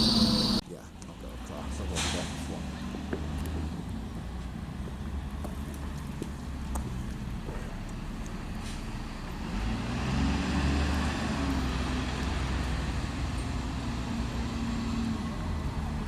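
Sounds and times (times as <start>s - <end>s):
heavy vehicle engine humming: 0.0s - 16.0s
street traffic noise: 0.0s - 16.0s.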